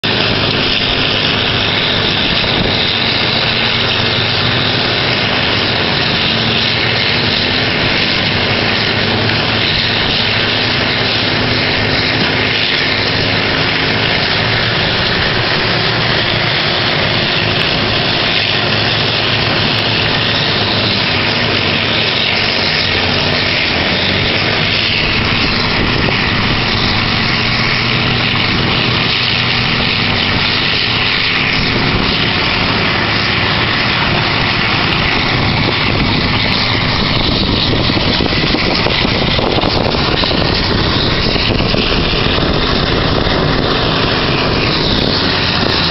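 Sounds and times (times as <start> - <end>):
loud machine drone: 0.0 - 45.9
rushing grinding noise: 0.0 - 45.9.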